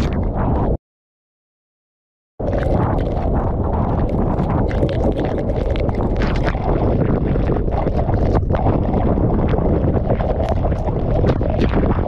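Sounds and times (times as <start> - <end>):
wind roaring across microphone: 0.0 - 0.8, 2.4 - 12.0.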